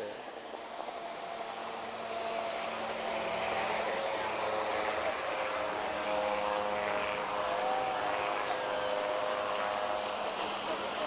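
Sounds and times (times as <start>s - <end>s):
autogyro engine drone: 0.0s - 11.0s.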